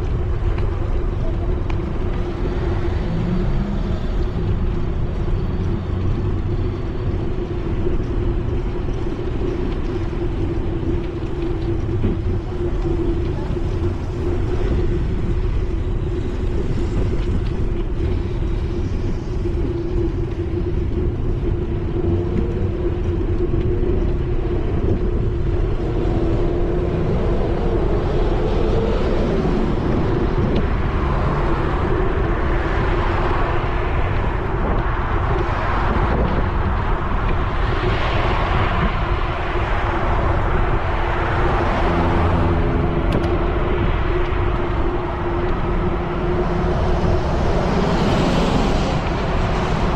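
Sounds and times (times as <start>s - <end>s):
tyres humming on asphalt: 0.0s - 49.9s
wind rumbling on microphone: 0.0s - 49.9s.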